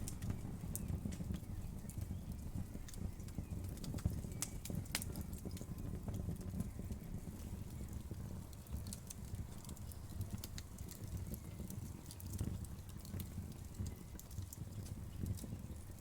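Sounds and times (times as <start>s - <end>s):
burning wood crackling: 0.0s - 16.0s
fire rumbling: 0.0s - 16.0s.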